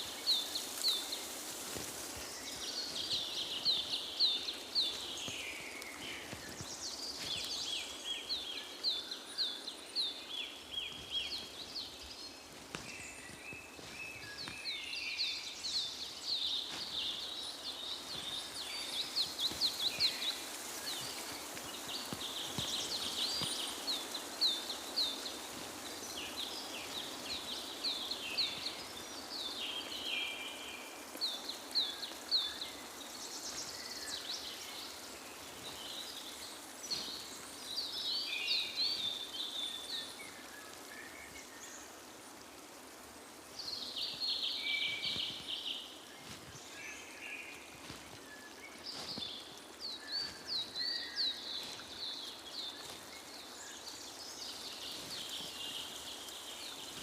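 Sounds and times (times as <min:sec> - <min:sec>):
background hiss: 0:00.0 - 0:57.0
wild birds singing: 0:00.0 - 0:57.0.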